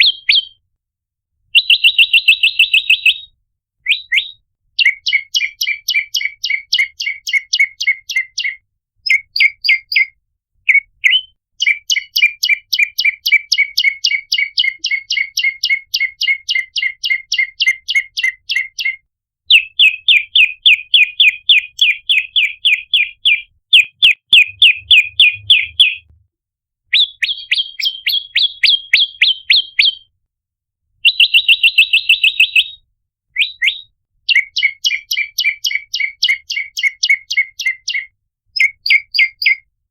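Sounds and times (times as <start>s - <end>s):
songbird chirping: 0.0s - 0.6s, 1.6s - 26.2s, 26.9s - 30.1s, 33.4s - 39.6s.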